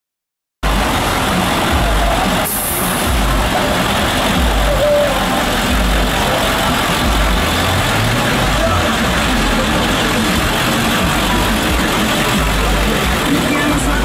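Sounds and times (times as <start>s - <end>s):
bus engine idling: 0.6s - 14.0s.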